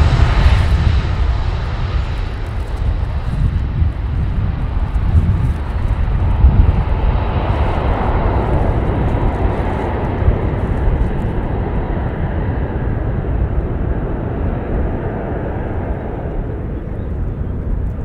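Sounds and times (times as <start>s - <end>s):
jet airliner engines at takeoff: 0.0s - 18.0s.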